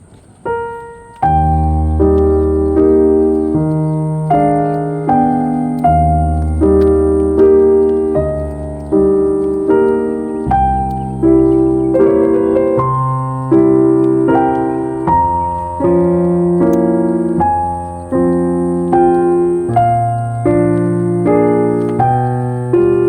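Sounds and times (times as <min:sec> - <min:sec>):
soft piano chords: 0:00.0 - 0:23.0.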